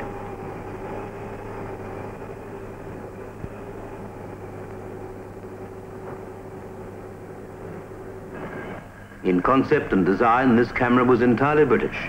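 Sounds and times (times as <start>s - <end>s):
machine hum with pitched tone: 0.0s - 12.0s.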